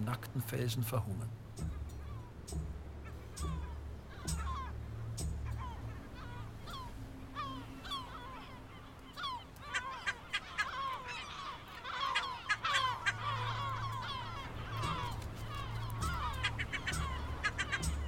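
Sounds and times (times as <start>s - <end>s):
gulls calling: 0.0s - 18.0s.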